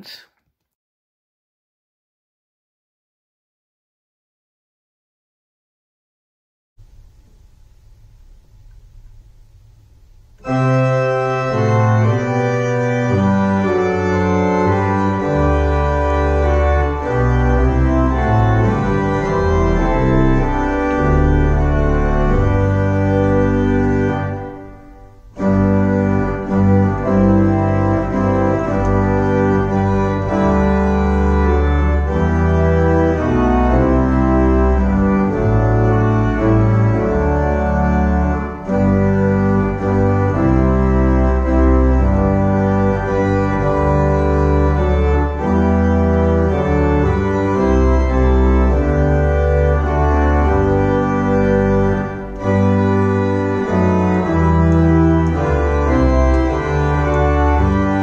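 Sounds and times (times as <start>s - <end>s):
church organ chords: 6.8s - 58.0s.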